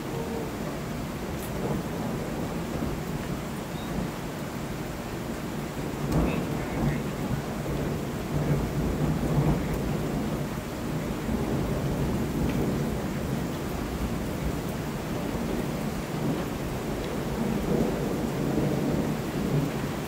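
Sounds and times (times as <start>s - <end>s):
rolling thunder: 0.0s - 3.4s, 5.8s - 20.0s
rain hissing: 0.0s - 20.0s.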